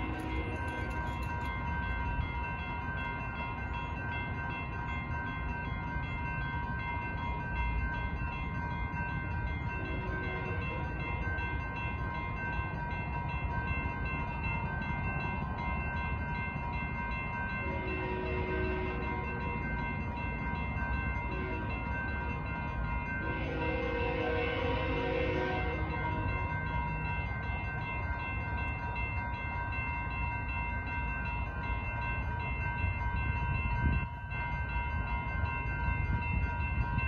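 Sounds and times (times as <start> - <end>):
crossing warning bells ringing: 0.0 - 37.0.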